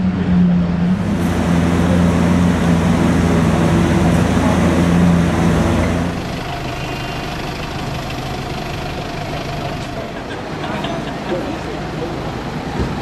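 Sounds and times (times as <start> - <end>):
car engine idling: 0.0 - 11.2
vehicle hum: 0.0 - 13.0.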